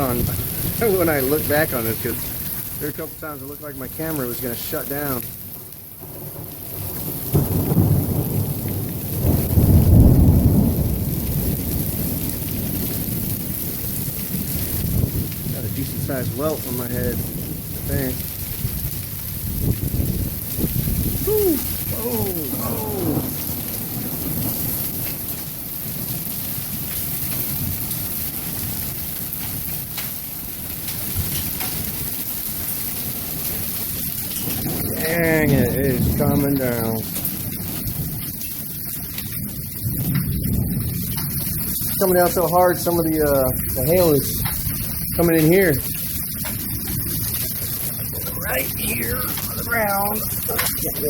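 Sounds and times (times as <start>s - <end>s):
heavy rain and hail: 0.0s - 51.0s
thunder rumbling: 0.0s - 51.0s.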